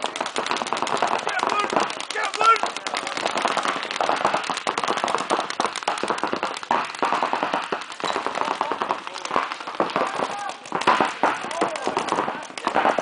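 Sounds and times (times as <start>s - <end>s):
paintball markers firing: 0.0s - 13.0s.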